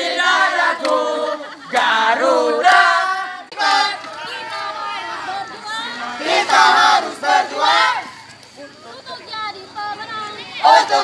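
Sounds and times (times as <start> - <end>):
group of people singing and shouting: 0.0 - 11.0.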